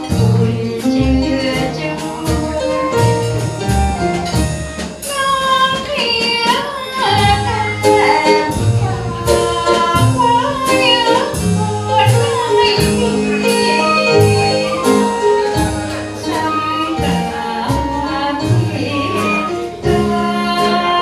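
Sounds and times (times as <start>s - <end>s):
woman singing into microphone: 0.0s - 3.8s, 5.0s - 21.0s
upright double bass: 0.0s - 21.0s
flute: 1.4s - 21.0s.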